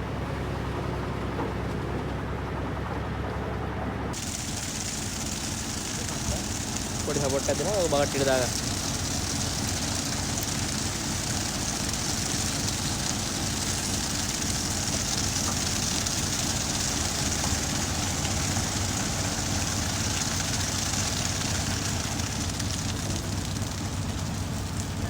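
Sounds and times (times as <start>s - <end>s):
diesel engine drone: 0.0s - 25.0s
continuous hiss: 4.1s - 25.0s.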